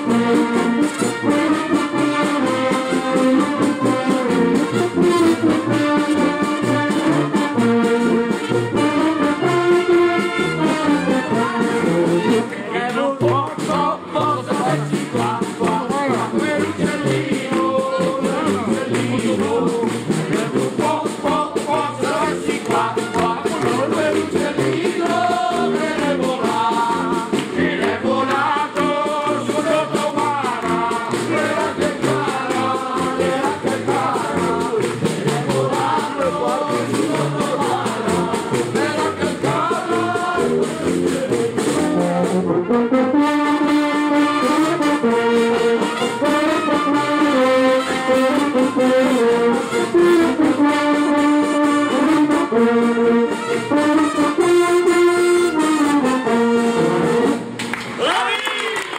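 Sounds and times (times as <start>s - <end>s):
street band playing a lively tune: 0.0s - 58.9s.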